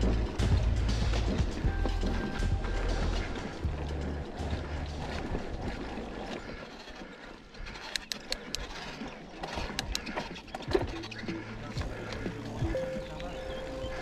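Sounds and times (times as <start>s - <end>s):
bike clicks and rattles: 0.0s - 14.0s
tyres rolling on dirt and grass: 0.0s - 14.0s.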